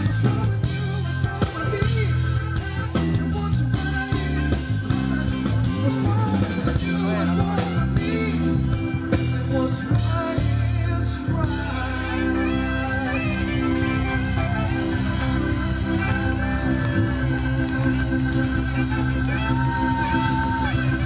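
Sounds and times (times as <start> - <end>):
bass guitar: 0.0 - 21.0
drums: 0.0 - 21.0
electric guitar: 0.0 - 21.0
person singing: 0.0 - 21.0.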